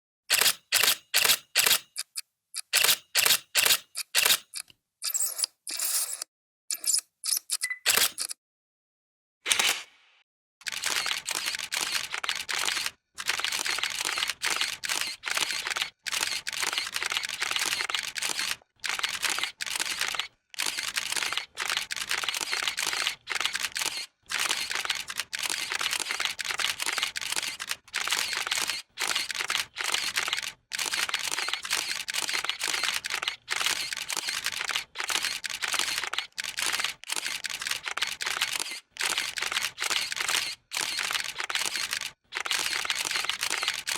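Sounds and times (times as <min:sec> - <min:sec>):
camera shutter clicking: 0:00.3 - 0:05.2, 0:06.8 - 0:08.4, 0:10.6 - 0:43.9.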